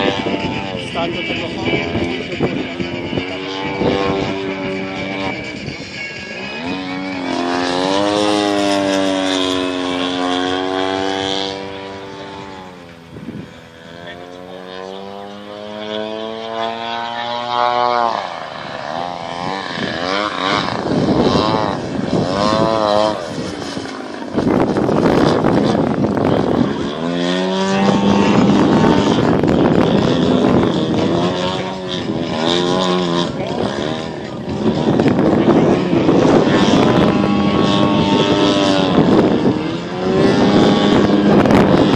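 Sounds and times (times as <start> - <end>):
model plane engine in flight: 0.0 - 41.9
wind buffeting microphone: 0.0 - 41.9.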